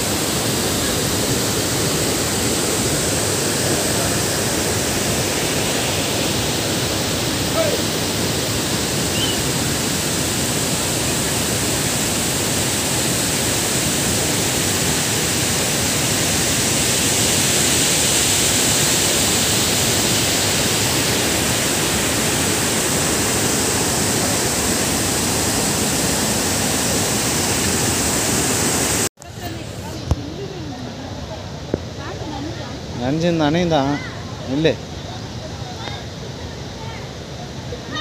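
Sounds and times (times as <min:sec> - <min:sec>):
whitewater rapids roaring: 0:00.0 - 0:30.9.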